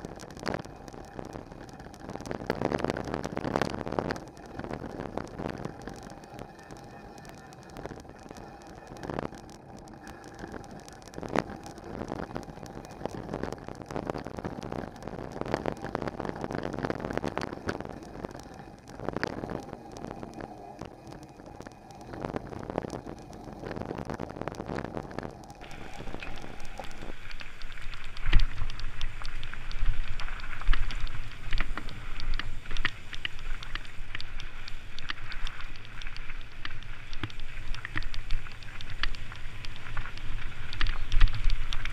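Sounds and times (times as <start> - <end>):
bike tyres rolling over gravel: 0.0 - 41.9.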